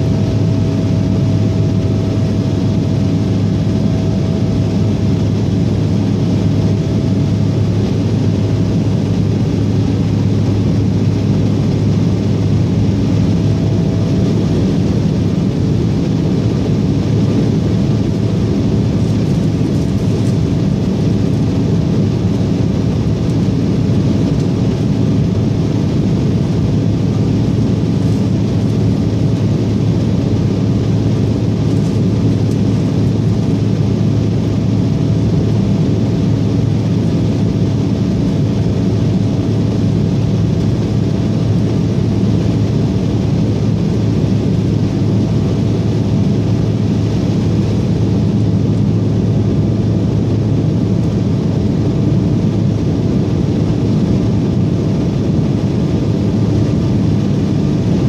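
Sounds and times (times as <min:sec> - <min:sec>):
airliner cabin drone: 0:00.0 - 0:58.0.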